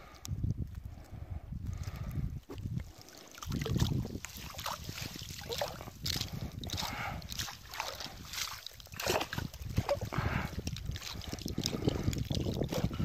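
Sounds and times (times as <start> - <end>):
water splashing and sloshing: 1.7 - 13.0.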